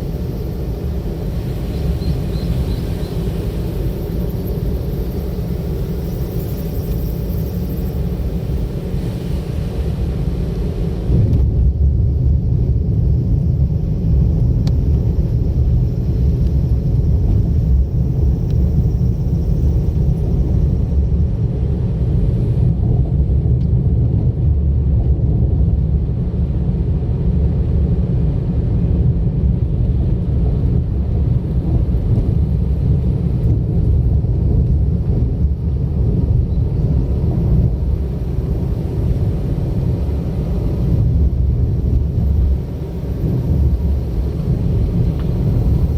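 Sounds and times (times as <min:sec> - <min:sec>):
car driving on road: 0:00.0 - 0:45.9.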